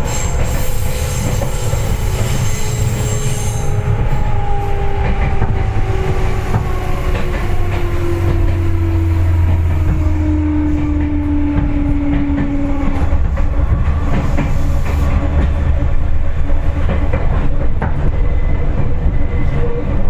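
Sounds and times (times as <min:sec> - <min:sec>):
train motor whine: 0:00.0 - 0:17.0
low train rumble: 0:00.0 - 0:20.0.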